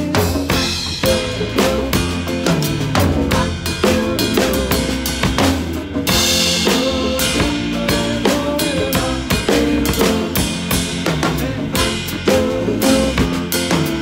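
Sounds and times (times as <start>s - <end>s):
bass: 0.0s - 14.0s
drum kit playing: 0.0s - 14.0s
pitched melody line: 0.4s - 14.0s.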